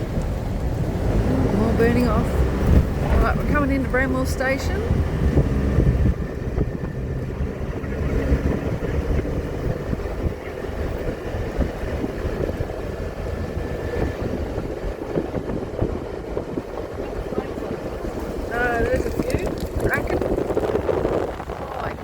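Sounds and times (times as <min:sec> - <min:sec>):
road and tyre rumble: 0:00.0 - 0:22.0.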